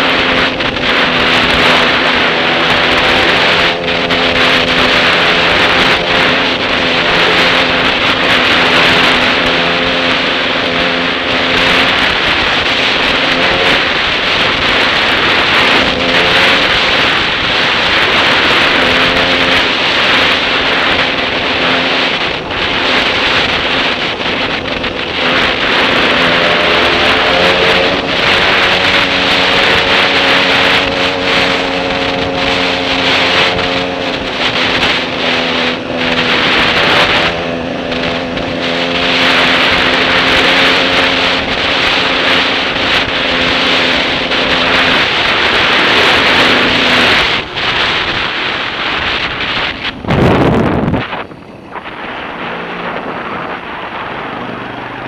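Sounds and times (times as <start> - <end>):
motorcycle engine running: 0.0 - 55.0
wind rush on helmet: 0.0 - 55.0.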